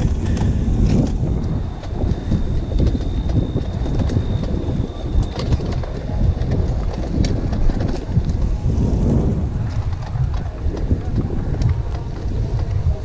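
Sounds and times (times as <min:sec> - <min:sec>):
motorcycle riding: 0:00.0 - 0:13.0
wind rumbling on microphone: 0:00.0 - 0:13.0.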